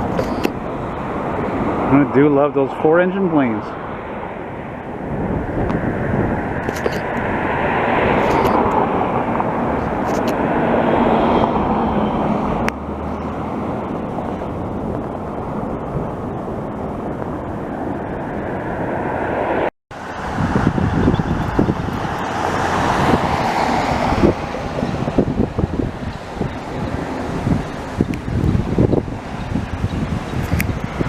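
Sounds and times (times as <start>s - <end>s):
jet airliner engine noise: 0.0s - 31.0s
wind on microphone: 0.0s - 31.0s.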